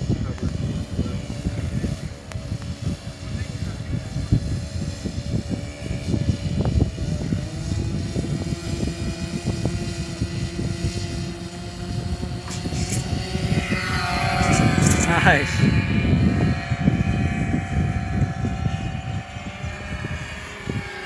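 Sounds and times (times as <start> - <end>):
model airplane engines whining: 0.0 - 21.0.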